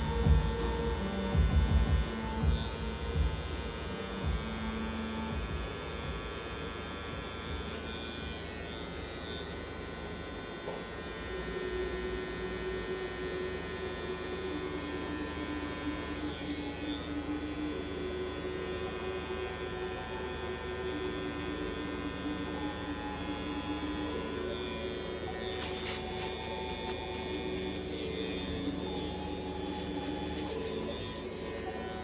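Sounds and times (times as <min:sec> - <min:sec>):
tattoo machine buzzing: 0:00.0 - 0:32.0.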